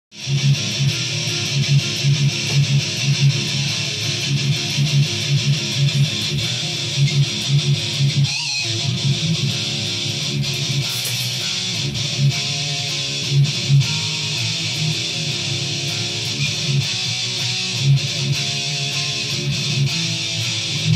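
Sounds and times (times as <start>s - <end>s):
distorted electric guitar riff: 0.1s - 20.9s.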